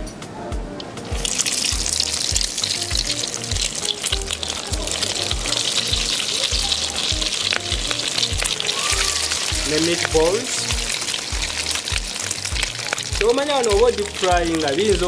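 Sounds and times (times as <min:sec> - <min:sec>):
background music with steady beat: 0:00.0 - 0:15.0
meat deep-frying in hot oil: 0:00.8 - 0:15.0.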